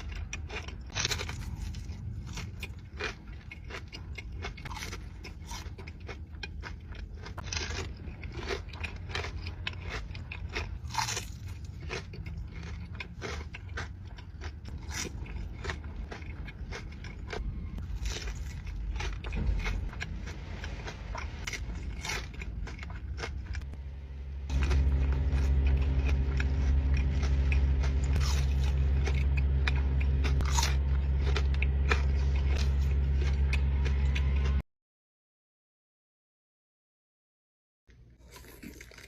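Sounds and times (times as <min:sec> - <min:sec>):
crunching and chewing crisp food: 0:00.0 - 0:34.6, 0:37.9 - 0:39.0
steady low hum: 0:00.0 - 0:34.6.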